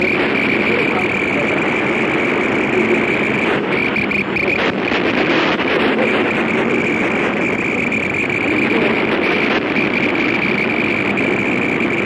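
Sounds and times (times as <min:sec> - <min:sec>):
high steady whine: 0:00.0 - 0:12.0
radio static: 0:00.0 - 0:12.0.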